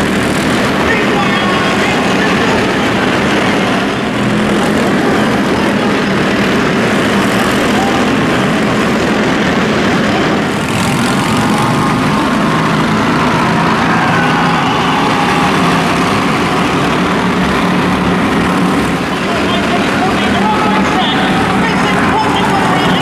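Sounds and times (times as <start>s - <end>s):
stock car engines droning: 0.0s - 23.0s.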